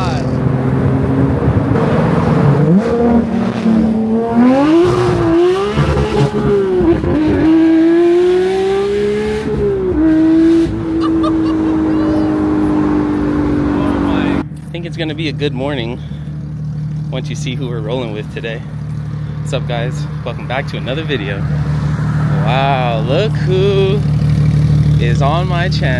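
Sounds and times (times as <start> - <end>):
car engine accelerating hard: 0.0 - 25.9.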